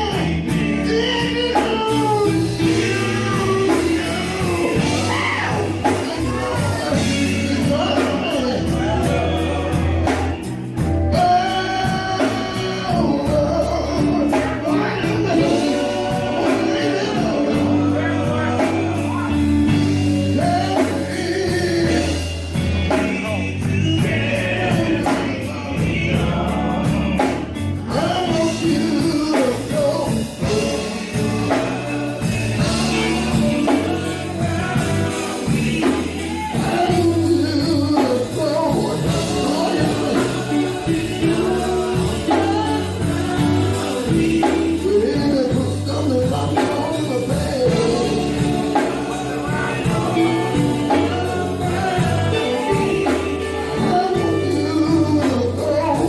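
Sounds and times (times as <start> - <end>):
band with bass and drums: 0.0 - 56.0
gospel singers: 0.0 - 56.0.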